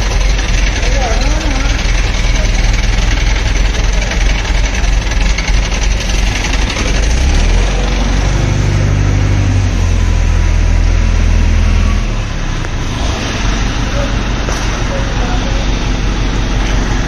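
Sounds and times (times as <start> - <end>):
crane engine running and revving: 0.0 - 17.0.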